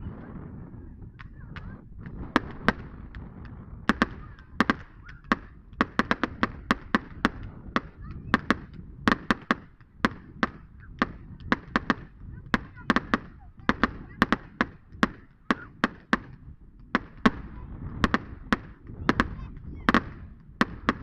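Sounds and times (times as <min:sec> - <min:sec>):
low background rumble: 0:00.0 - 0:21.0
fireworks bangs and cracks: 0:01.2 - 0:21.0.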